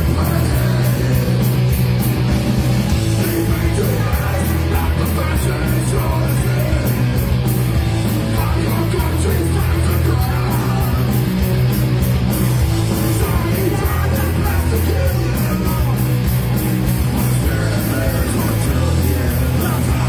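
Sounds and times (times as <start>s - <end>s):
driving drumbeat: 0.0s - 20.0s
rock band playing: 0.0s - 20.0s.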